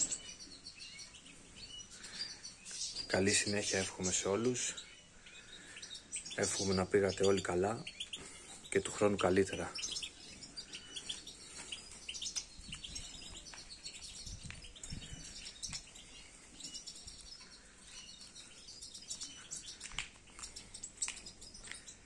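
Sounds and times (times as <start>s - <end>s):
finches chirping and twittering: 0.0s - 22.0s.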